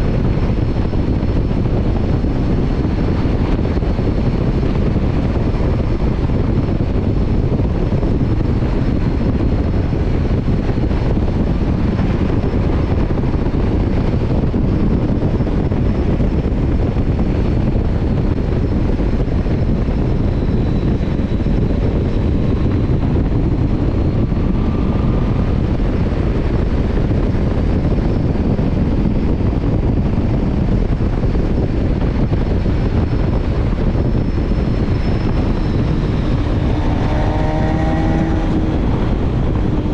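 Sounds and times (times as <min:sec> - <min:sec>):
motorcycle engine running: 0:00.0 - 0:39.9
wind rushing past microphone: 0:00.0 - 0:39.9.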